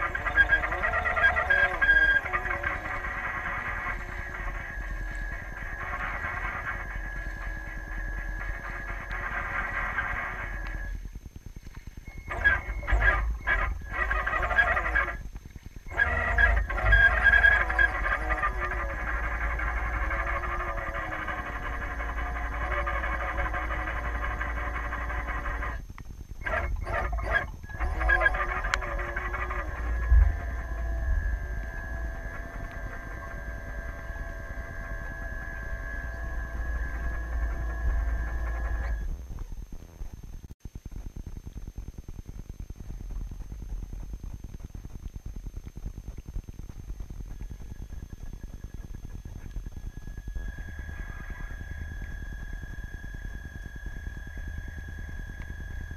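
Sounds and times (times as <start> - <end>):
model boat motor whining: 0.0 - 40.5, 47.3 - 55.9.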